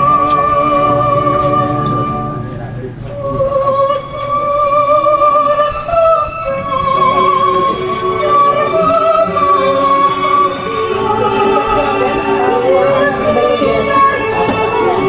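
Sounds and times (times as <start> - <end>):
high voice singing with vibrato: 0.0 - 15.0.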